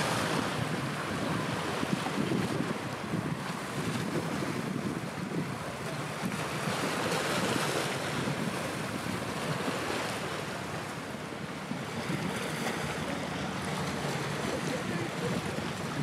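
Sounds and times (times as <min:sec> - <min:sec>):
waves rushing: 0:00.0 - 0:16.0
wind on microphone: 0:00.0 - 0:16.0.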